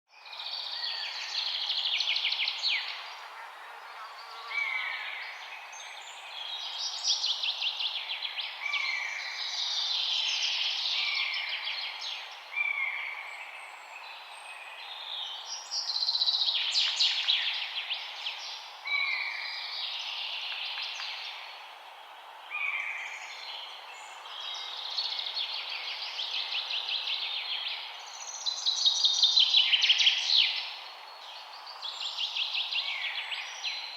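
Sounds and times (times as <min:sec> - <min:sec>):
songbirds singing: 0:00.1 - 0:33.9.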